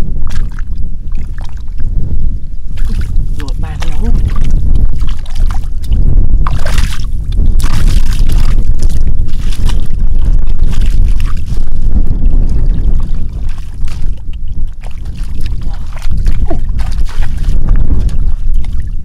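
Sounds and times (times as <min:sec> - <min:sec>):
wind on microphone: 0:00.0 - 0:19.0
muddy water splashing: 0:00.1 - 0:01.9, 0:02.7 - 0:19.0.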